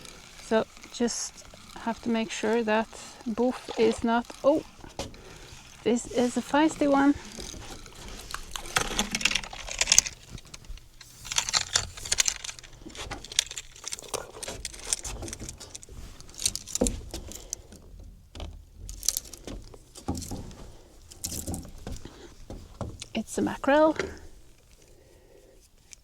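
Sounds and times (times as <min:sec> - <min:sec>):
fishing reel clicking and rattling: 0:00.0 - 0:26.0.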